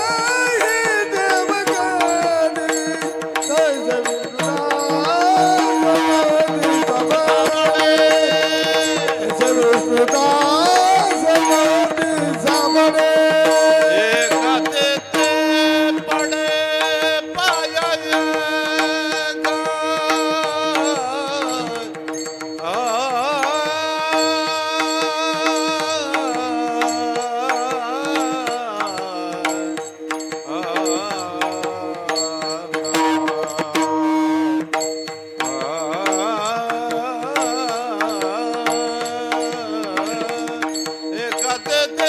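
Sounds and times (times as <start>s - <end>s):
devotional singing with gliding pitches: 0.0s - 42.0s
percussion strokes: 0.0s - 42.0s.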